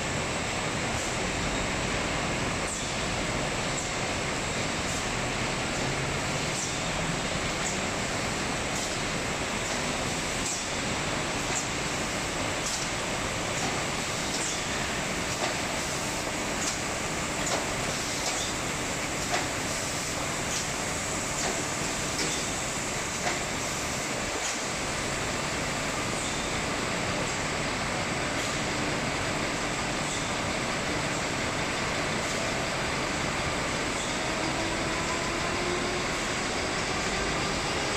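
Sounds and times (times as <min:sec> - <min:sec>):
bottling line machinery running: 0:00.0 - 0:37.9.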